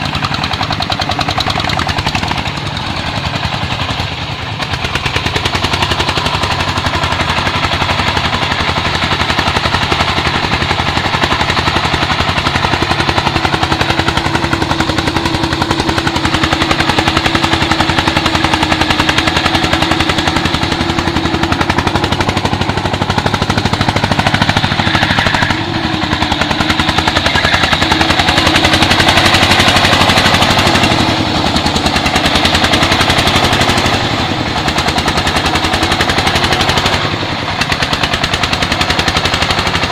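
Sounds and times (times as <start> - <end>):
diesel engine chugging: 0.0 - 39.9
steady whine: 0.0 - 39.9.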